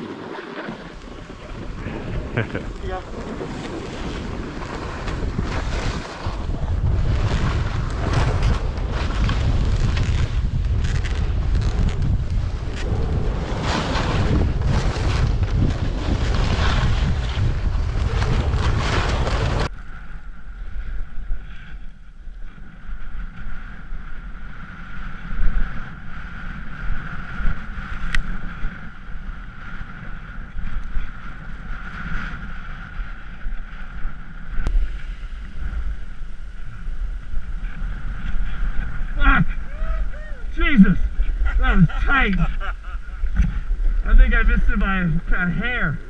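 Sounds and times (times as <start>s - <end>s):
snowboard scraping over snow: 0.0s - 19.7s, 22.8s - 46.0s
wind buffeting microphone: 0.0s - 46.0s.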